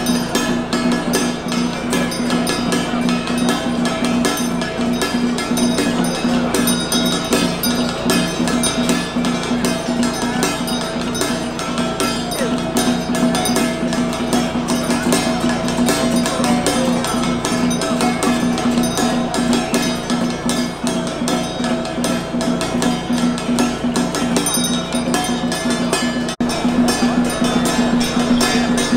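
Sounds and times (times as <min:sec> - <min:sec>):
gong and drum rapid strikes: 0:00.0 - 0:28.9
sustained drone: 0:00.0 - 0:28.9.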